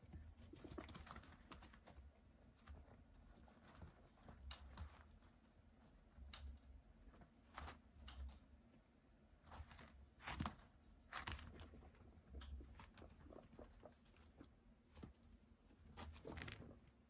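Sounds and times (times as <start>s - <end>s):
guinea pigs rustling in bedding: 0.0s - 17.0s.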